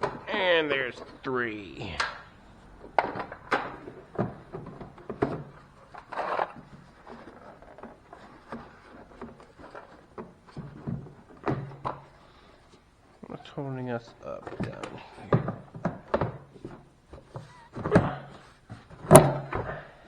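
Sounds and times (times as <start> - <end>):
hand tools knocking and clunking: 0.0 - 12.6, 14.4 - 19.9.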